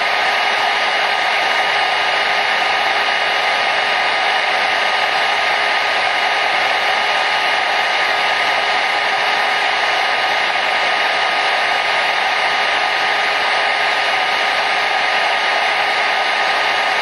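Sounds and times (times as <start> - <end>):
hair dryer blowing air: 0.0 - 17.0
hair dryer motor whine: 0.0 - 17.0.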